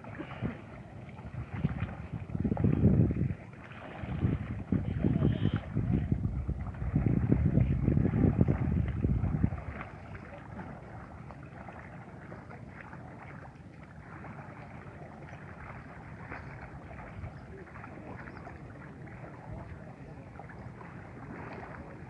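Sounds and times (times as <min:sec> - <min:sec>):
water splashing against raft: 0:00.0 - 0:22.0.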